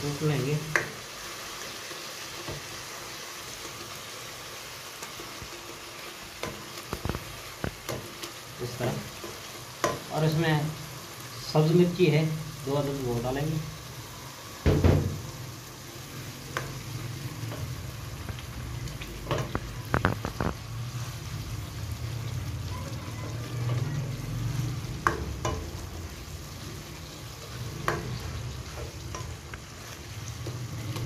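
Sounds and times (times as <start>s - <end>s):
masala frying in a pot: 0.0s - 31.0s.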